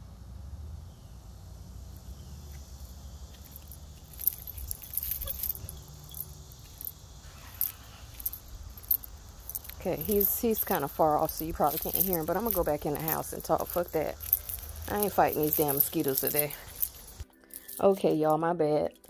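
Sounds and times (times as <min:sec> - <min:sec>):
low steady rumble: 0:00.0 - 0:17.2
light clicks and rustles: 0:02.0 - 0:18.2.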